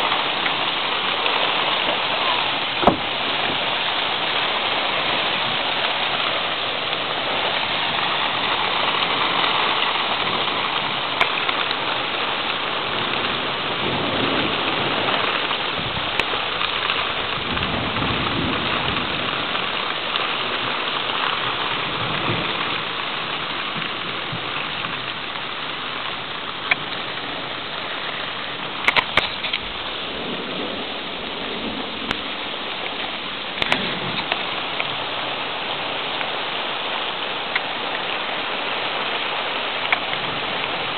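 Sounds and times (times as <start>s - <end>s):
strong wind: 0.0s - 22.9s, 26.9s - 40.9s
heavy rain: 0.0s - 40.9s.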